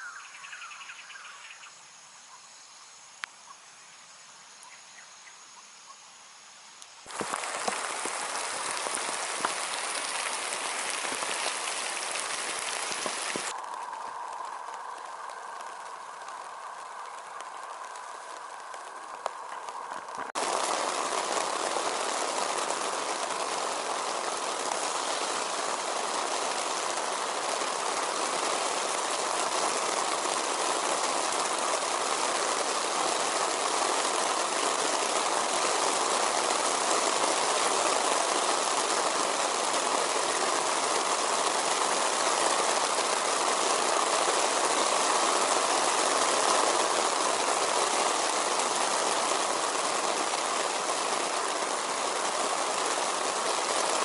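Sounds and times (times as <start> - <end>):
heavy rain falling: 6.8 - 54.0.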